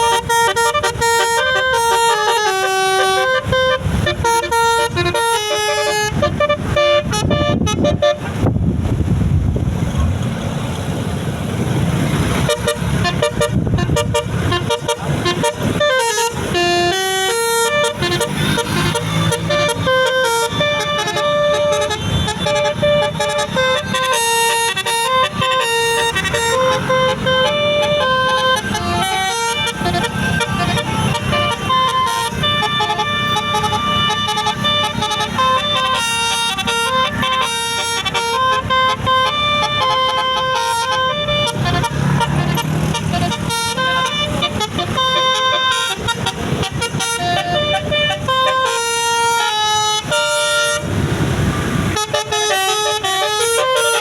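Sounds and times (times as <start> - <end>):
musical bus horn melody: 0.0 - 8.5, 12.4 - 54.0
bus engine running: 0.0 - 54.0.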